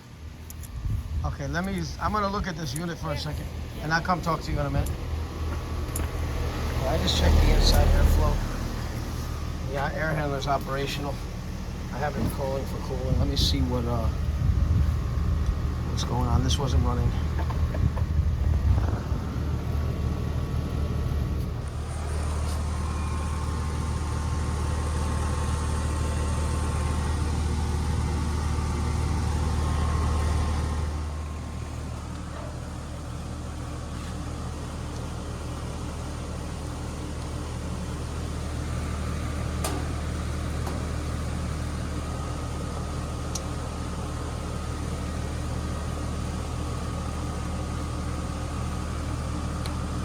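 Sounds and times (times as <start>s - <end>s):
condenser unit humming: 0.0s - 50.0s.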